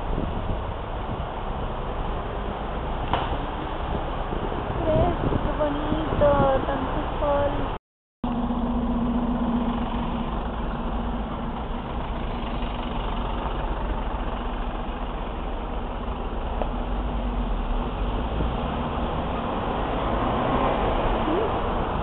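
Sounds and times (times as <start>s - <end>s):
car engines idling: 0.0s - 18.0s.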